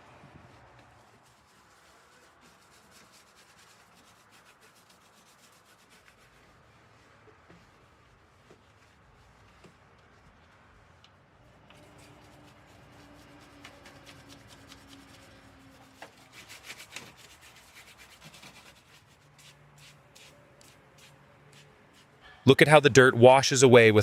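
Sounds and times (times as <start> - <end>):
hands scrubbing a surface: 0.2 - 22.2.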